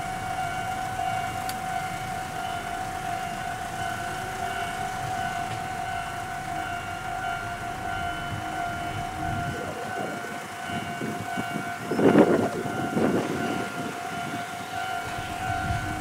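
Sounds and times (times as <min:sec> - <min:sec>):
repeating high ringing tone: 0:00.0 - 0:16.0.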